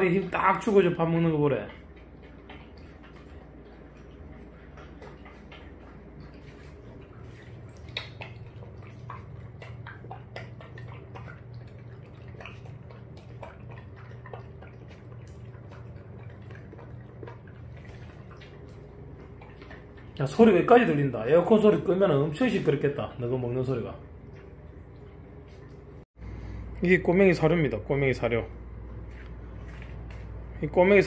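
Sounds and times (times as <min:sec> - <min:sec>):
air conditioner hum: 0:00.0 - 0:31.0.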